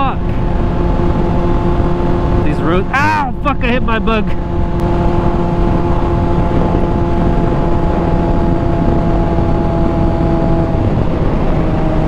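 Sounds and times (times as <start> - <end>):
motorcycle engine drone: 0.0 - 12.0
wind rush on microphone: 0.0 - 12.0.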